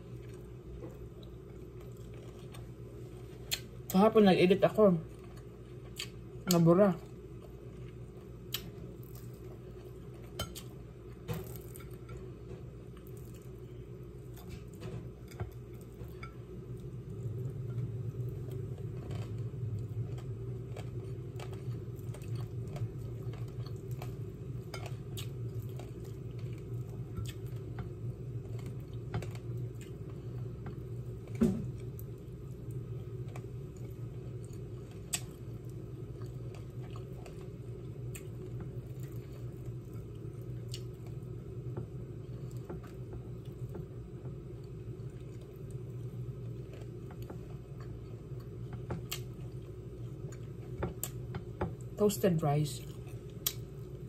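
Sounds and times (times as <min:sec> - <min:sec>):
steady low hum: 0:00.0 - 0:54.0
person chewing: 0:00.1 - 0:03.8, 0:05.1 - 0:41.3, 0:44.6 - 0:51.6, 0:52.8 - 0:54.0.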